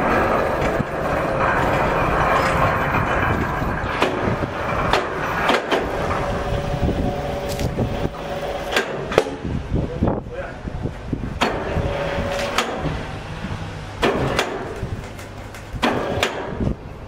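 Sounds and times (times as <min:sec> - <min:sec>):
steady mechanical noise: 0:00.0 - 0:17.0.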